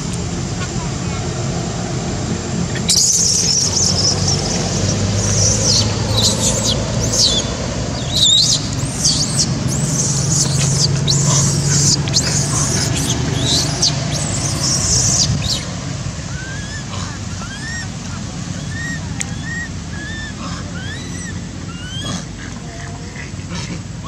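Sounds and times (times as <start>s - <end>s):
infant monkey screaming: 2.7s - 23.8s.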